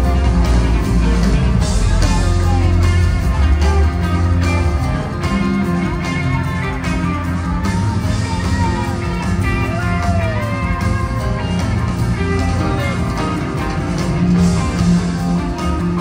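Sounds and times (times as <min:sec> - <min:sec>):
bending lead guitar notes: 0:00.0 - 0:16.0
rock band playing live: 0:00.0 - 0:16.0.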